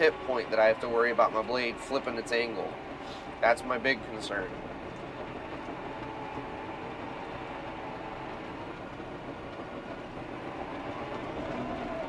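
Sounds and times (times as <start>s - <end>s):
bulldozer diesel engine: 0.0s - 12.0s
faint whine: 0.0s - 12.0s.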